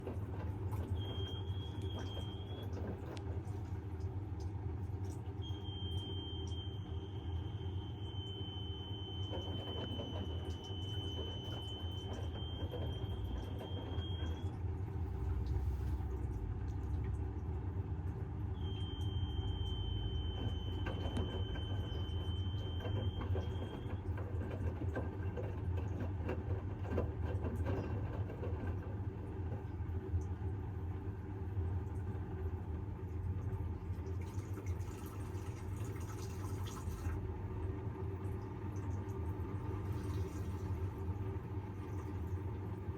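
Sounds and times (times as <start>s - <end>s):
washing machine humming and knocking: 0.0s - 42.9s.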